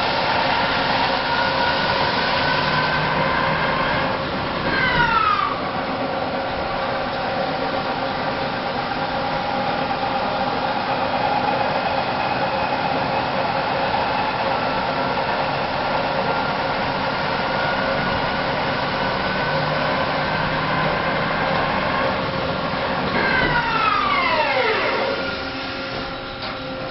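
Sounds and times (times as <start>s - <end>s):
held whining tones: 0.0s - 26.9s
lathe machine hum: 0.0s - 26.9s.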